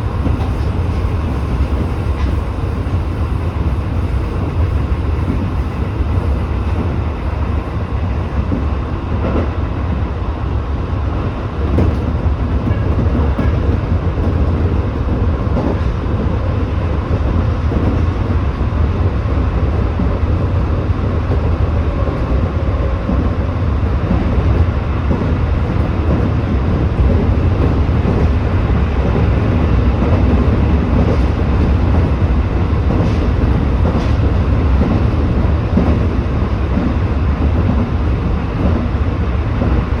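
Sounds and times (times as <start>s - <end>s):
train wheels rumbling on track: 0.0s - 40.0s.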